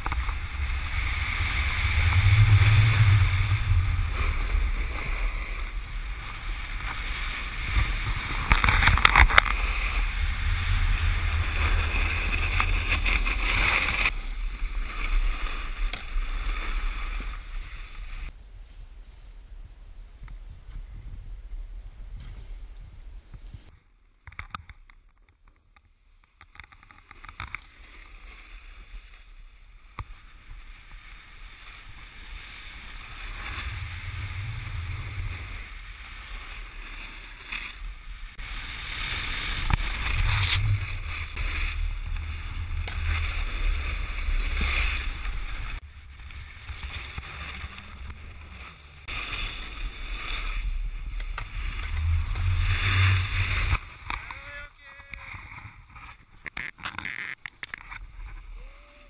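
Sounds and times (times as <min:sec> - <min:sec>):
snowboards scraping over snow: 0:00.0 - 0:19.4, 0:27.1 - 0:59.0
wind rumble on microphone: 0:00.0 - 0:23.8, 0:28.6 - 0:56.4.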